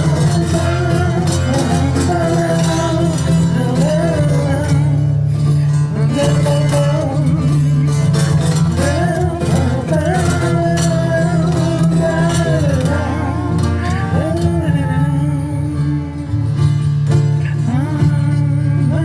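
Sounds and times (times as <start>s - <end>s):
acoustic guitar: 0.0s - 19.0s
bass: 0.0s - 19.0s
person singing: 0.0s - 19.0s.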